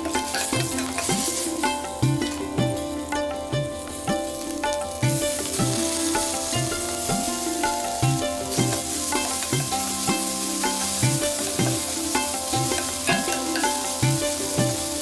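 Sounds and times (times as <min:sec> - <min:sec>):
food sizzling in a pan: 0:00.0 - 0:15.0
instrumental music with drum beat: 0:00.0 - 0:15.0.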